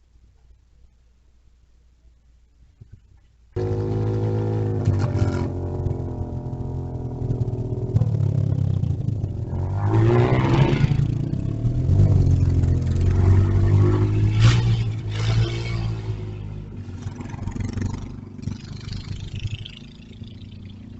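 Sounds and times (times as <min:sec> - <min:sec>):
petrol engine revving: 0:03.6 - 0:20.9.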